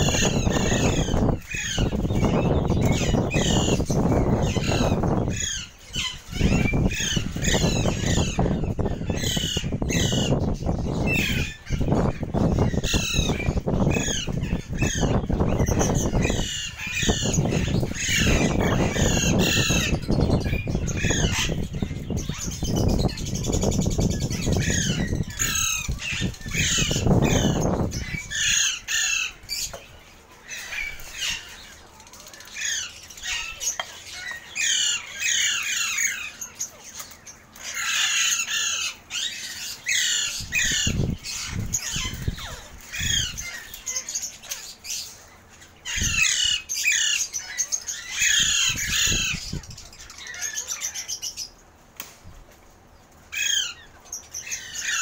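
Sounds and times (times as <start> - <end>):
parakeets squawking: 0.0 - 51.7, 52.6 - 55.0.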